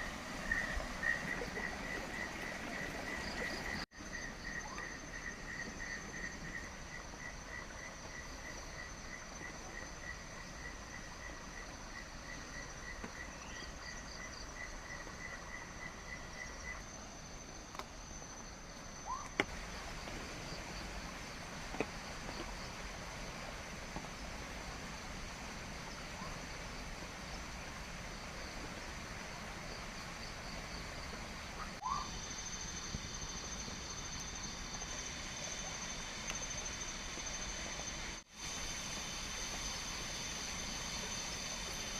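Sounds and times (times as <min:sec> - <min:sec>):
constant hiss: 0:00.0 - 0:41.9.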